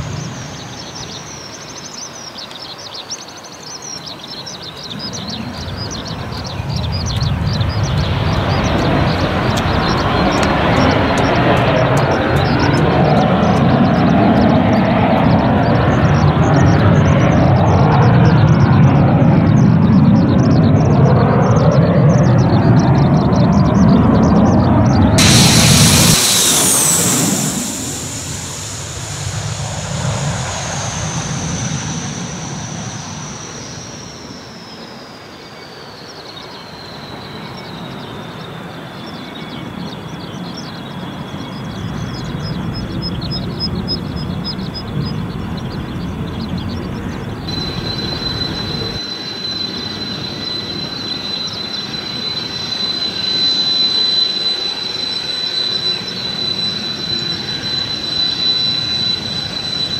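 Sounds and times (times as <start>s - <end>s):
jet engine whine and rumble: 0.0s - 59.9s.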